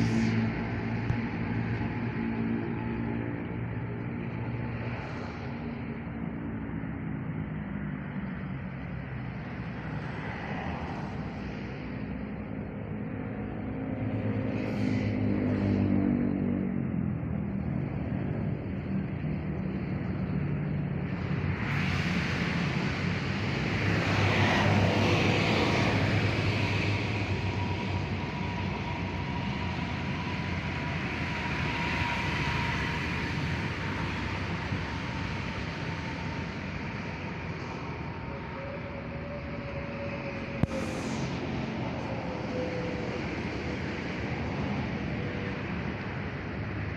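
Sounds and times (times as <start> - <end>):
traffic engine rumble: 0.0 - 46.9
vehicles passing: 0.0 - 46.9.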